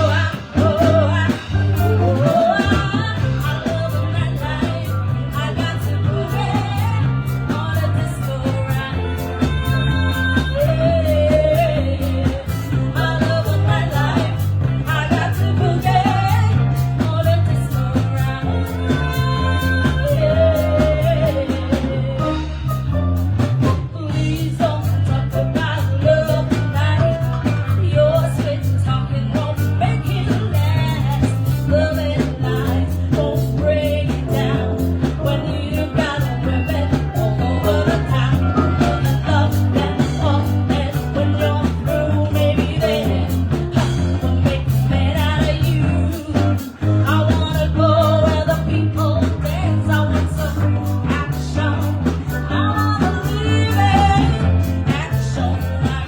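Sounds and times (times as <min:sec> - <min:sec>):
bass line: 0:00.0 - 0:56.0
guitar: 0:00.0 - 0:56.0
person singing: 0:00.0 - 0:56.0.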